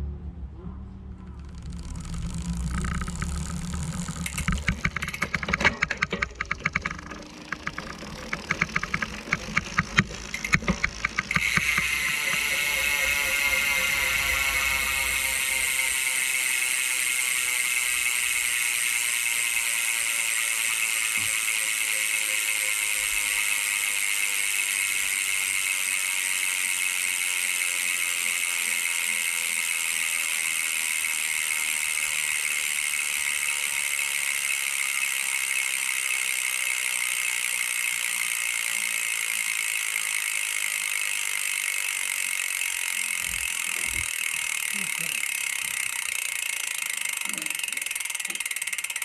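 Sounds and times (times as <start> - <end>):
bicycle hub freewheel clicking: 1.2 - 49.0.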